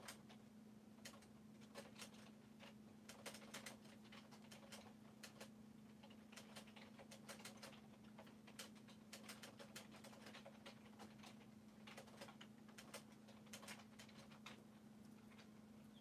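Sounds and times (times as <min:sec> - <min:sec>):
faint steady low hum: 0:00.0 - 0:16.0.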